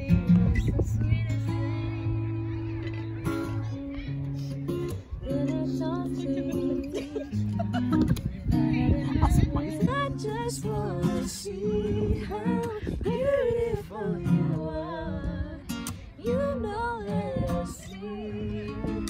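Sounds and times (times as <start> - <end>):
woman singing: 0.0 - 7.4, 8.4 - 19.0
acoustic guitar: 0.0 - 19.0.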